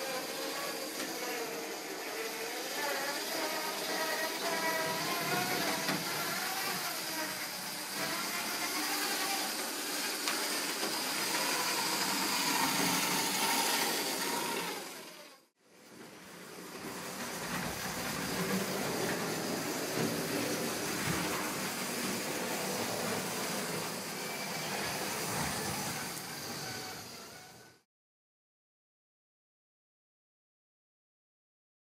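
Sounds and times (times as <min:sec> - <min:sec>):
model train motors whining: 0:00.0 - 0:27.8.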